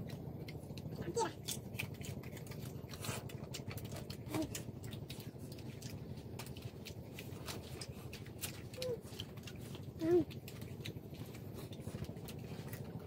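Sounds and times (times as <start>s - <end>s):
chewing: 0.0s - 13.0s
low background hum: 0.0s - 13.0s.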